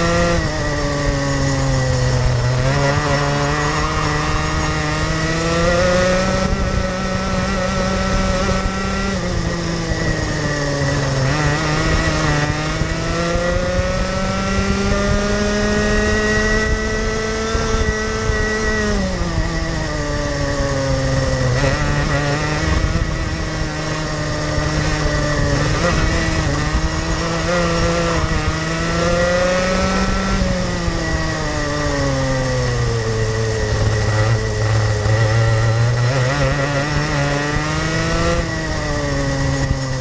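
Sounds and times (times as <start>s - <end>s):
kart engine revving: 0.0s - 40.0s.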